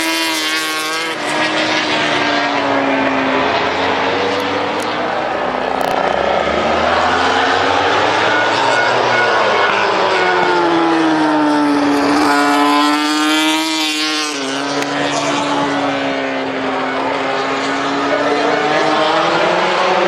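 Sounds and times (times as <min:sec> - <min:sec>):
racing motorcycle engines revving: 0:00.0 - 0:20.0
motorcycle passing by: 0:03.3 - 0:20.0.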